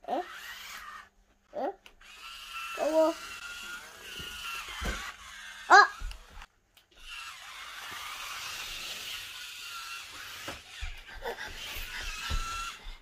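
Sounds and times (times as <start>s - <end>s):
toy car motors whirring: 0.0s - 13.0s.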